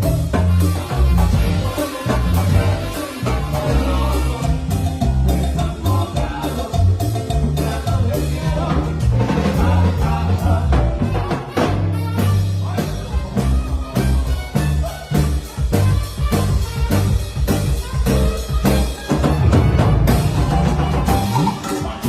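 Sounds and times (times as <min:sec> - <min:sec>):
person singing: 0:00.0 - 0:16.0, 0:20.1 - 0:22.0
bass line: 0:00.0 - 0:22.0
drum kit steady beat: 0:00.0 - 0:22.0.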